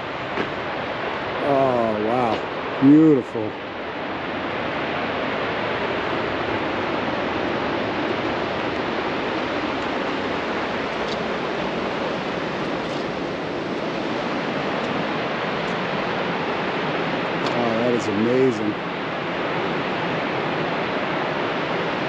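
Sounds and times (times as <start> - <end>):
waterfall and river rapids rushing: 0.0 - 22.0.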